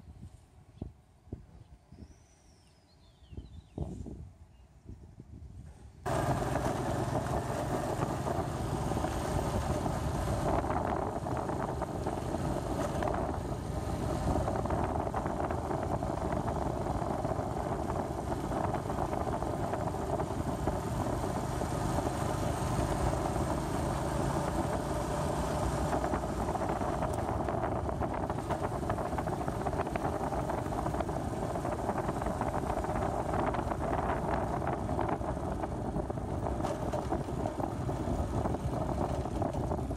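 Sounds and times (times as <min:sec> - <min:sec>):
wind rush on microphone: 0:00.0 - 0:39.9
vehicle engine and road noise: 0:05.3 - 0:39.9.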